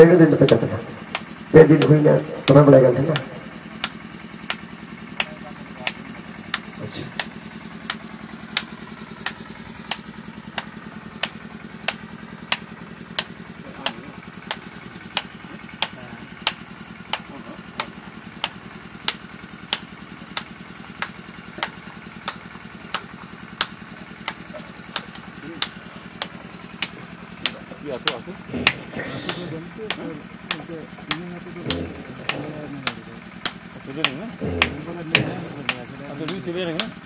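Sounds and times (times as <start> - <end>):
small engine running: 0.0 - 37.0
sharp clicks: 0.2 - 37.0.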